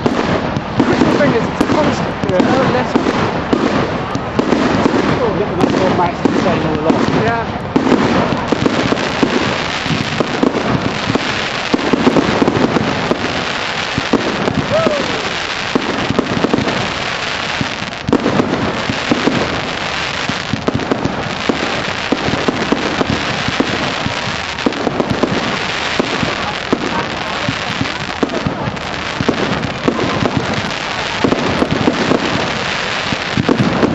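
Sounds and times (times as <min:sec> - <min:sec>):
fireworks crackling and popping: 0:00.0 - 0:33.9
fireworks shells bursting: 0:00.0 - 0:33.9.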